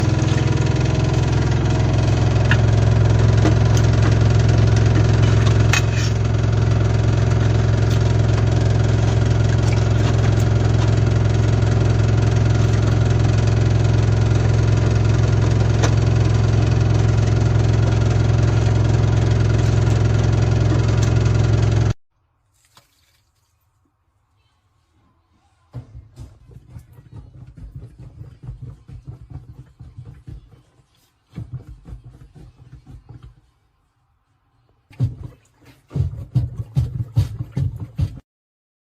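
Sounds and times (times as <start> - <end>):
dishwasher drain pump humming: 0.0 - 22.0, 25.7 - 33.4, 34.9 - 38.2.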